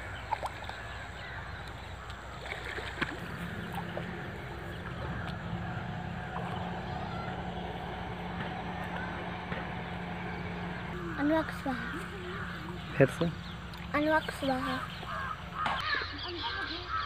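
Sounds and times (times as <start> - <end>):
steady low hum: 0.0 - 17.0
faint scattered calls: 0.4 - 17.0.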